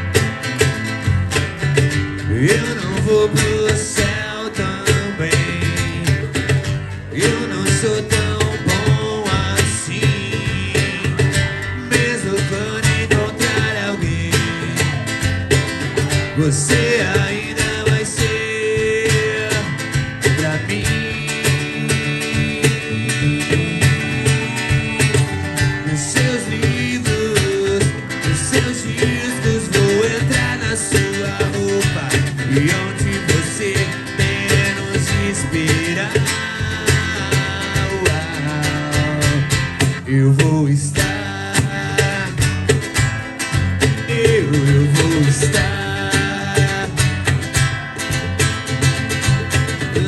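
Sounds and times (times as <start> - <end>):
electric guitar lead: 0.0 - 40.3
bass guitar: 0.0 - 50.0
steady drum beat: 0.0 - 50.0.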